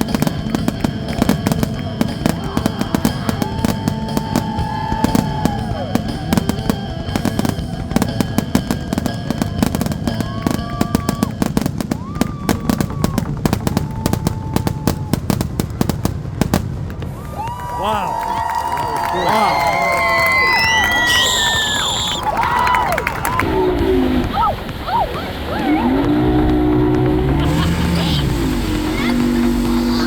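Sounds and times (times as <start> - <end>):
fireworks crackling and popping: 0.0 - 30.0
fireworks whistling: 0.0 - 30.0.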